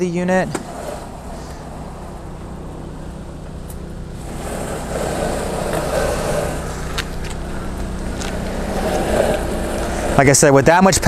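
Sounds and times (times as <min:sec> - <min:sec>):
electric motor hum: 0:00.6 - 0:10.4.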